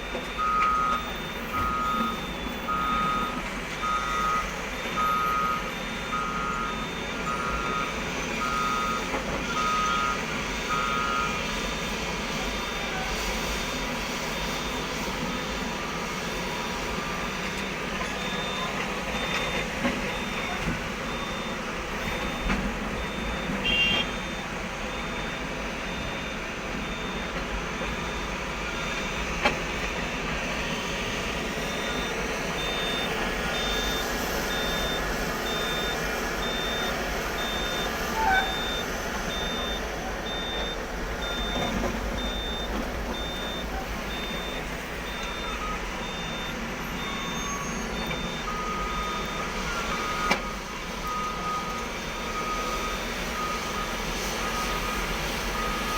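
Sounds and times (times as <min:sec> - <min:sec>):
heavy machinery diesel engines: 0:00.0 - 0:55.9
reversing alarm beeping: 0:00.0 - 0:55.9.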